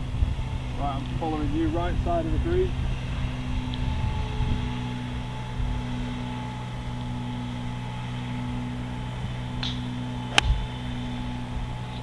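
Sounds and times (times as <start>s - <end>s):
faint high whine: 0.0s - 12.0s
low mechanical hum: 0.0s - 12.0s.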